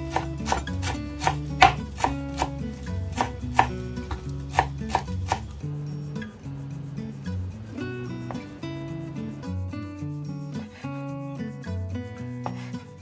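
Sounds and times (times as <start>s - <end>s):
background music with bass line: 0.0s - 13.0s.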